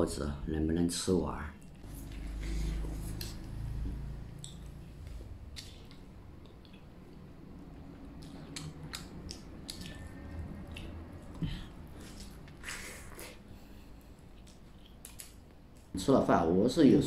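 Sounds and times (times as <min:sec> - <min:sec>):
chewing with wet smacking: 0:01.5 - 0:13.4, 0:14.0 - 0:16.0.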